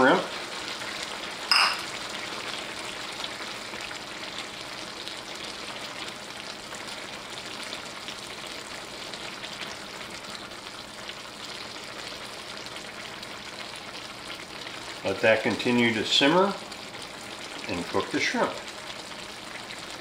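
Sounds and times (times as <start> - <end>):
shrimp sizzling in sauce: 0.0 - 20.0.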